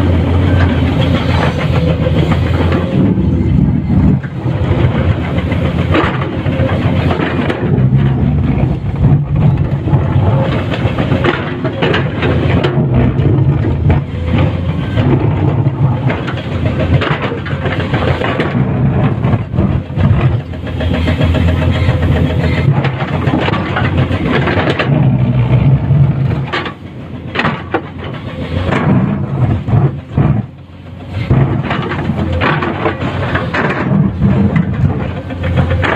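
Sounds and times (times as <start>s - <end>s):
excavator diesel engine: 0.0s - 35.9s.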